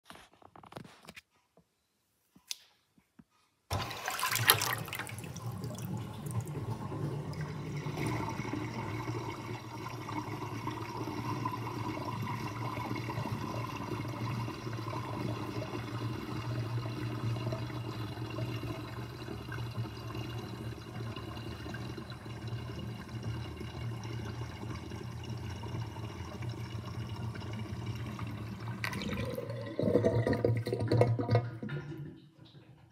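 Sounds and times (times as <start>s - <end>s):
water gurgling down sink drain: 3.7s - 32.9s.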